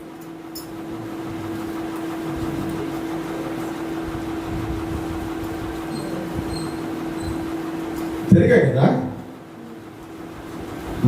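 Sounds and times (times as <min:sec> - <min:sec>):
constant tone: 0:00.0 - 0:11.0
steady hum: 0:00.0 - 0:11.0.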